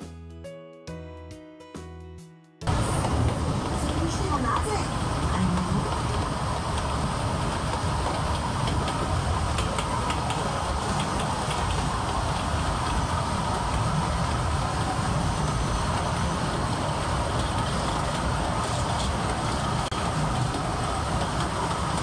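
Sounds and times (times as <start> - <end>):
train wheels rumbling: 2.7 - 22.0.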